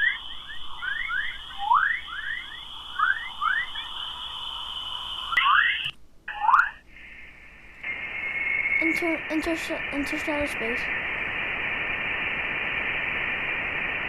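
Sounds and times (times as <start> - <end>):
steady high whine: 0.0 - 14.0.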